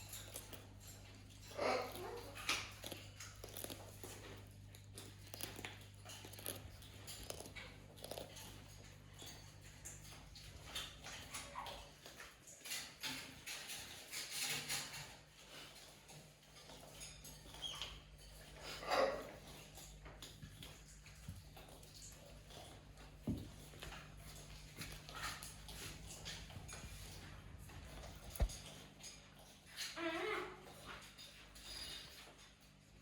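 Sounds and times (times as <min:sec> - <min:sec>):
parrot crunching carrot: 0:00.0 - 0:32.5.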